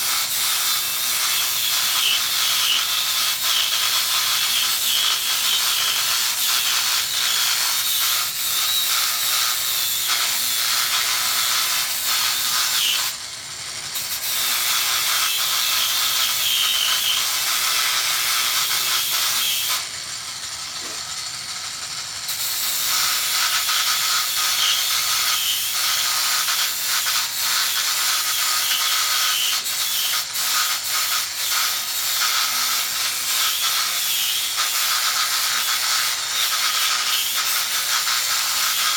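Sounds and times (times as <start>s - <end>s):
die grinder grinding metal: 0.0s - 38.9s.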